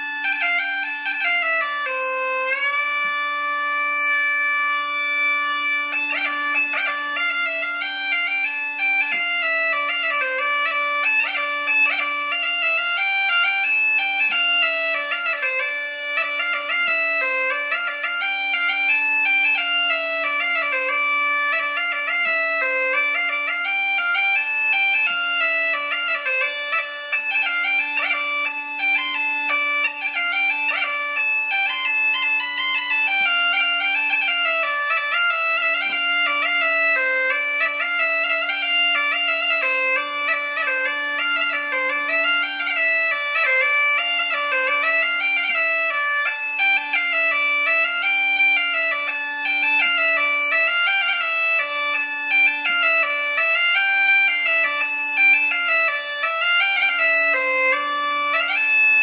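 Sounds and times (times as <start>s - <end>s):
bagpipe melody with drone: 0.0s - 59.0s.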